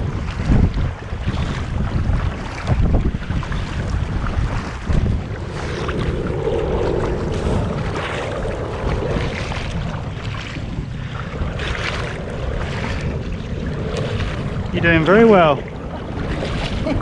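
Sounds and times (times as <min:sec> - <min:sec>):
paddle strokes splashing water: 0:00.0 - 0:17.0
wind buffeting microphone: 0:00.0 - 0:17.0.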